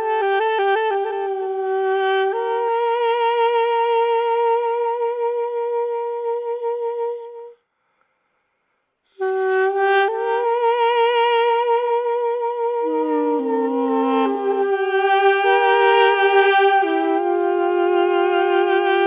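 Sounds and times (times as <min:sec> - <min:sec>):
solo wind instrument: 0:00.0 - 0:07.7, 0:09.1 - 0:19.0.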